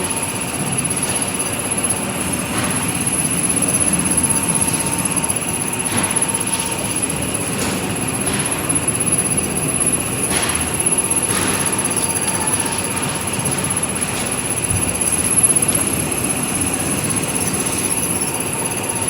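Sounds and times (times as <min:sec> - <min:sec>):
high-pitched machine whine: 0:00.0 - 0:19.0
production line machinery running: 0:00.0 - 0:19.0.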